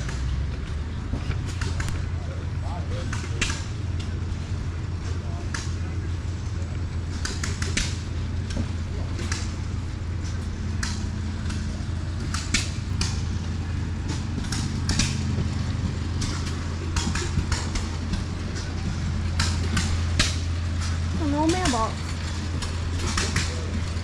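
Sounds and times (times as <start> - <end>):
sharp clicks and knocks: 0.0 - 2.1, 3.0 - 4.2, 5.0 - 24.0
low engine hum: 0.0 - 24.0.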